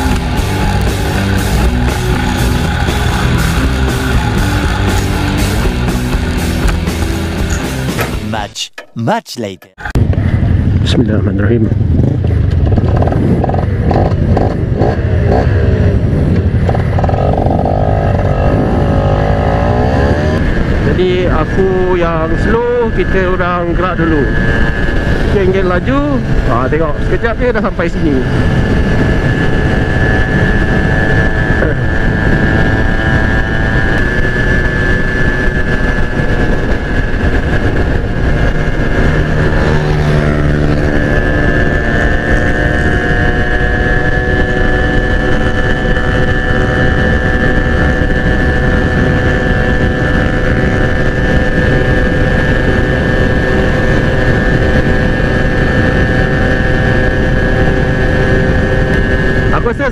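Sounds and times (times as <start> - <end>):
motorcycle engine cruising: 0.0 - 8.9, 9.8 - 59.9
wind and road noise: 0.0 - 59.9.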